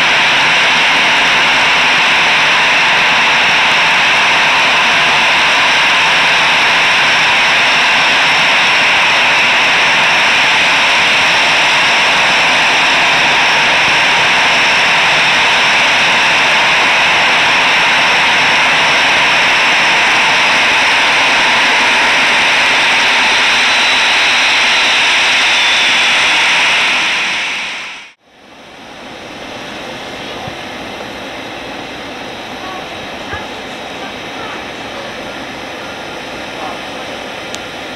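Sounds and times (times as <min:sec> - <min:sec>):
jet turbines whining: 0:00.0 - 0:37.9.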